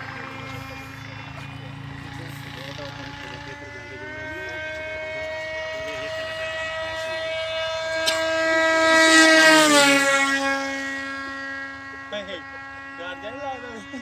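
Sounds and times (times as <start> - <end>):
model airplane motor whining: 0.0 - 14.0.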